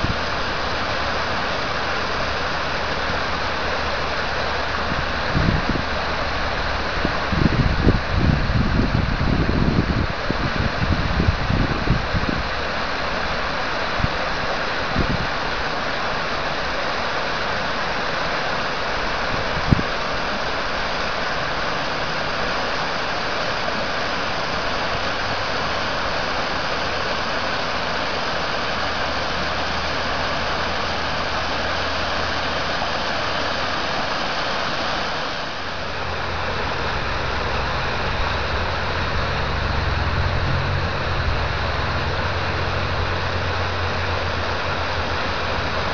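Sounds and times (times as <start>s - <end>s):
low steady hum: 0.0s - 45.9s
river water rushing over dam: 0.0s - 45.9s.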